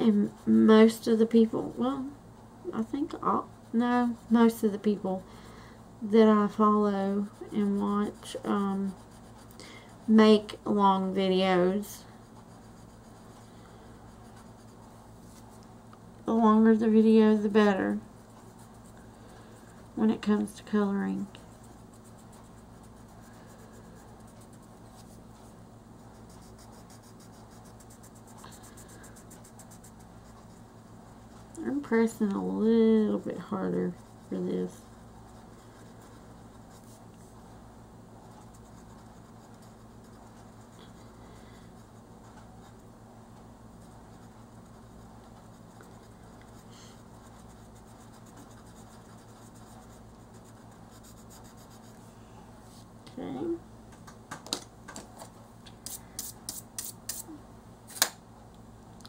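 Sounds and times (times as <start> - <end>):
colored pencil scratching on paper: 0.0 - 2.2, 2.8 - 5.2, 6.1 - 15.6, 16.4 - 37.4, 38.2 - 42.8, 43.8 - 52.0
low electrical hum: 0.0 - 59.0.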